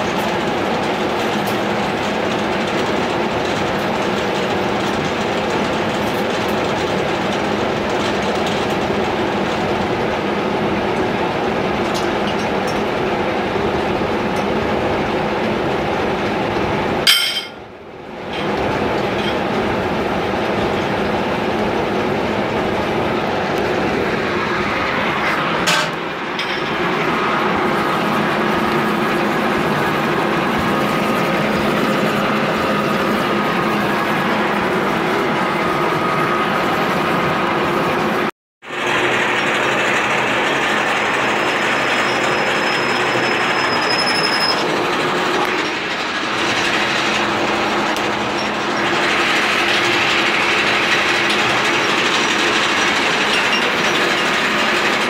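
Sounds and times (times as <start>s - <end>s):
milling machine drone: 0.0s - 55.0s.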